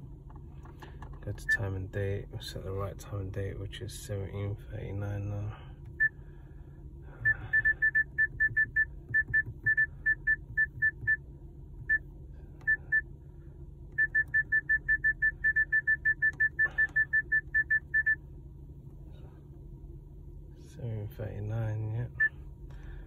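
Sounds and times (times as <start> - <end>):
car engine idling hum: 0.0 - 23.0.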